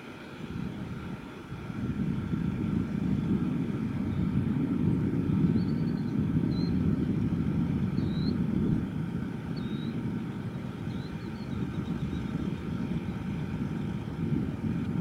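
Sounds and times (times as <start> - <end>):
faint engine whine: 0.0 - 15.0
jet engines rumbling: 0.0 - 15.0.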